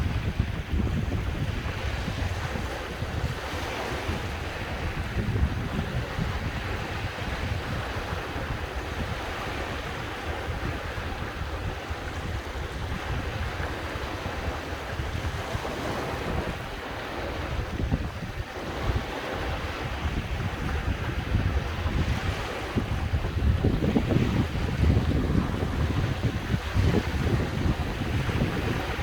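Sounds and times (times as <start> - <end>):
sea waves washing: 0.0 - 29.0
wind buffeting microphone: 0.0 - 29.0.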